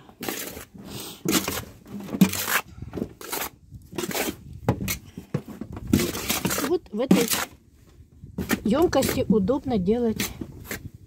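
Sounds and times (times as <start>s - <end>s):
soil mixed by hand in plastic tub: 0.0s - 7.6s, 8.3s - 11.0s.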